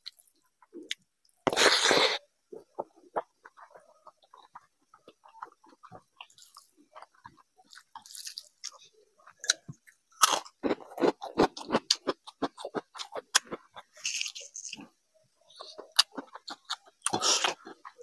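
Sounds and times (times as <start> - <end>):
crisp crunches of papad chewing: 0.0 - 14.9, 15.5 - 18.0
wet chewing of rice and curry: 0.0 - 18.0.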